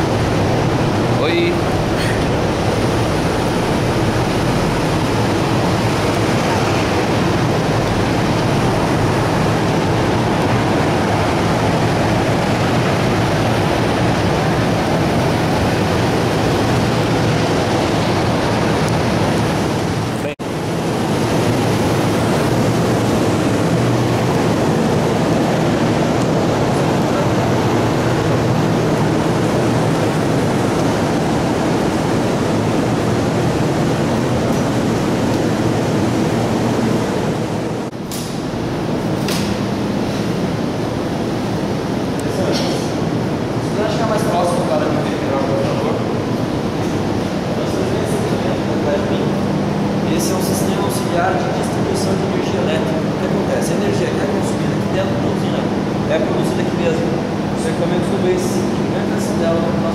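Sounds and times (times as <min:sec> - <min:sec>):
loud steady rushing noise: 0:00.0 - 0:59.9.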